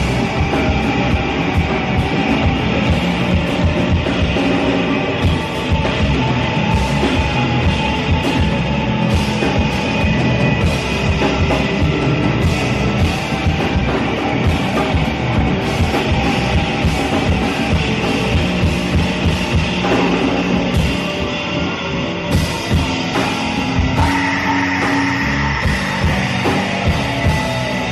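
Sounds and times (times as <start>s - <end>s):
drum kit: 0.0s - 27.9s
electric guitars: 0.0s - 27.9s
keyboards: 0.0s - 27.9s.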